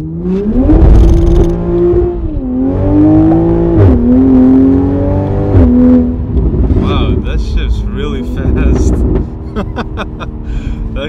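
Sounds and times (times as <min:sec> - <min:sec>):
car engine accelerating loudly: 0:00.0 - 0:11.0.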